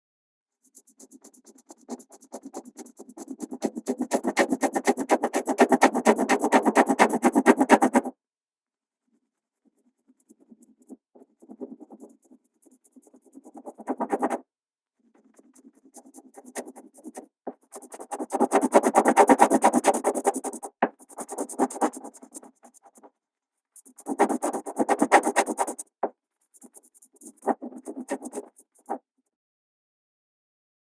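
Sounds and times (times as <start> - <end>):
pencil shading on paper: 0.7 - 8.1, 9.7 - 14.4, 15.2 - 23.1, 23.8 - 29.0.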